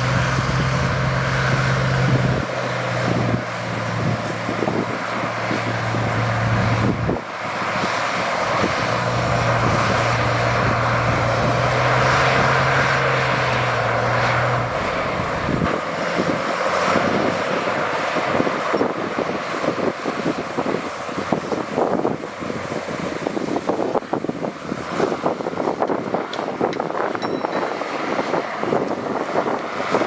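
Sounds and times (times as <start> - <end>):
broad noisy rush: 0.0 - 30.0
heavy machinery diesel engine running: 0.0 - 30.0.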